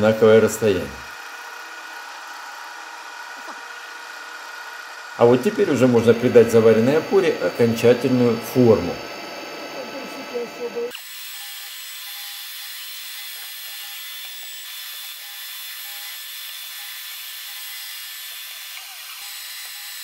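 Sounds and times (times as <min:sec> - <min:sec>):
milling machine whine and hiss: 0:00.0 - 0:20.0.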